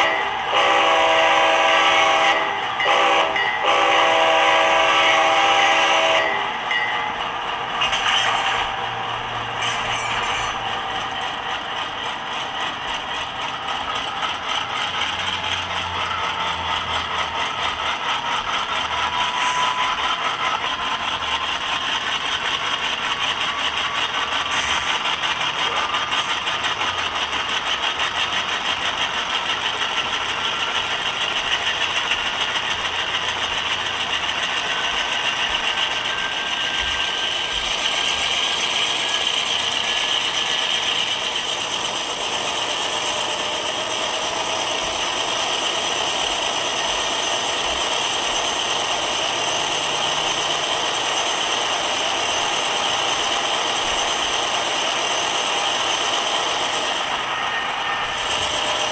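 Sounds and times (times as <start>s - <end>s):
model train diesel engine sound: 0.0s - 58.9s.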